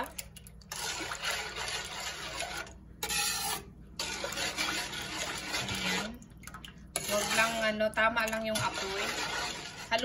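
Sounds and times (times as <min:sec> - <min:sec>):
metal ladle scraping frying pan: 0:00.7 - 0:06.2, 0:06.9 - 0:10.0.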